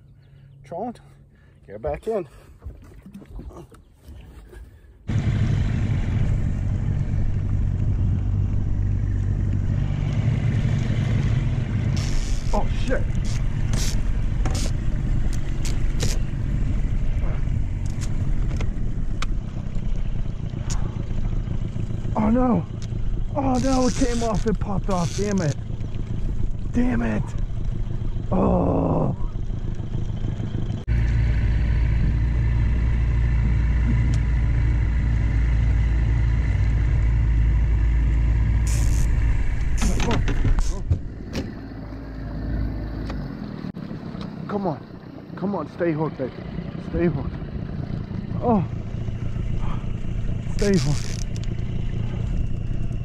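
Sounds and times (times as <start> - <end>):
outboard motor droning: 0.0 - 53.0.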